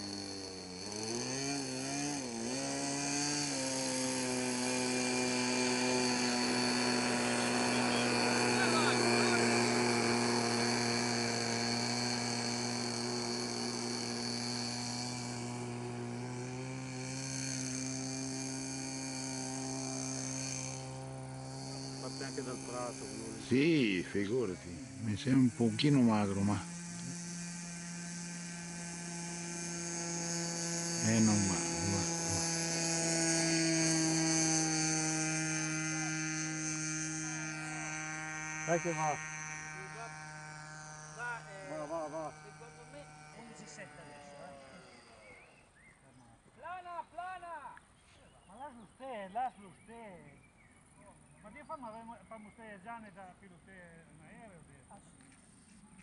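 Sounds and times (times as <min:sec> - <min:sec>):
model airplane engine running: 0:00.0 - 0:56.0.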